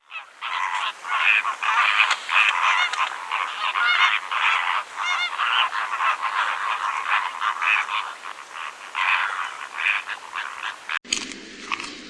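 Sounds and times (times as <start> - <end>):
chorus of rasping animal calls: 0.0 - 11.0.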